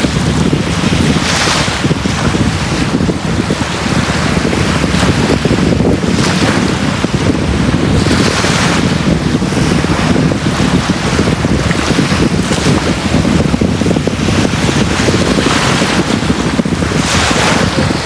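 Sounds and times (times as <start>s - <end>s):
sea waves washing on beach: 0.0s - 18.0s.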